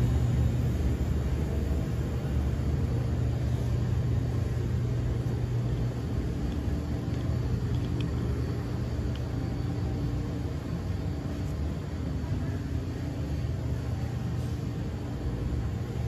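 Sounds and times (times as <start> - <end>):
machinery hum and rumble: 0.0 - 16.0.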